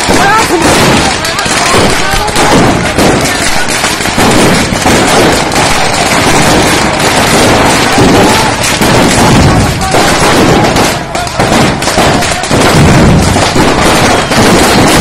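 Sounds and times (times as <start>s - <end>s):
firecrackers banging and crackling: 0.0s - 15.0s
people shouting: 0.0s - 15.0s.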